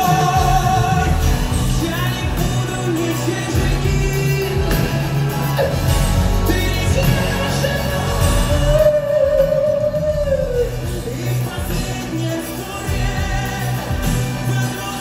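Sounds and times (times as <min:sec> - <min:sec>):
live band playing pop ballad: 0:00.0 - 0:15.0
man singing: 0:00.0 - 0:15.0.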